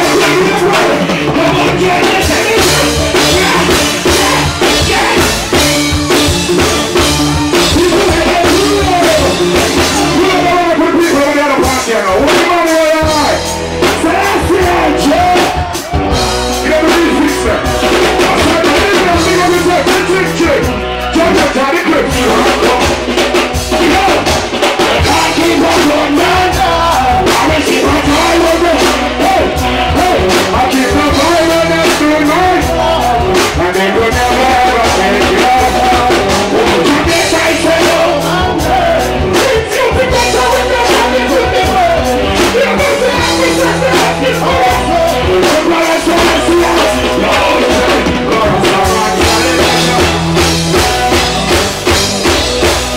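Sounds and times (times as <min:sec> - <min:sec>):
man singing into a microphone: 0:00.0 - 0:51.6
drum kit: 0:00.0 - 0:52.9
electric guitar: 0:00.0 - 0:52.9
low bass line: 0:00.0 - 0:52.9.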